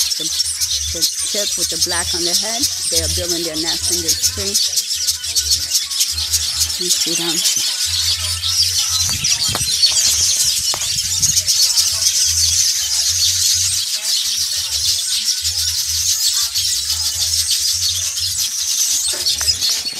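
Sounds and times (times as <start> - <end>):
weaver birds chirping chorus: 0.0 - 19.9.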